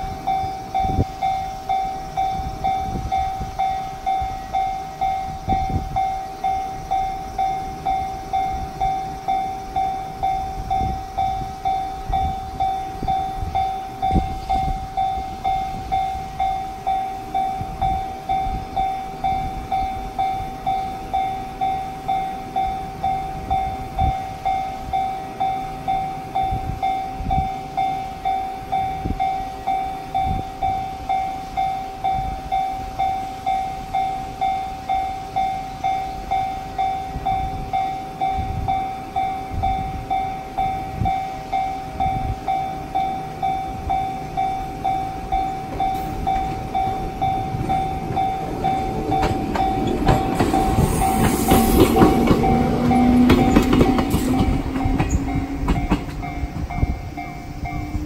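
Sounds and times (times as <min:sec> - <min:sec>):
level crossing alarm bell: 0:00.0 - 0:58.0.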